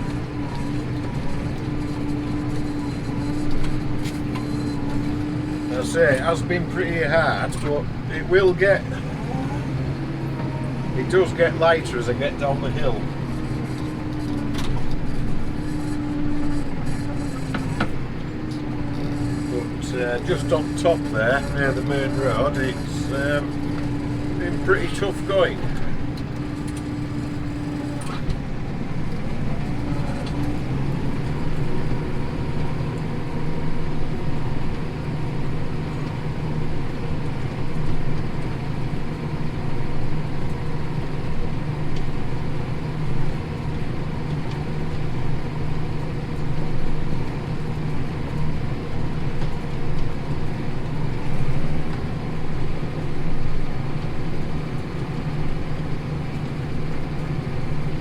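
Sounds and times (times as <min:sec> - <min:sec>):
tractor engine droning under load: 0:00.0 - 0:58.0.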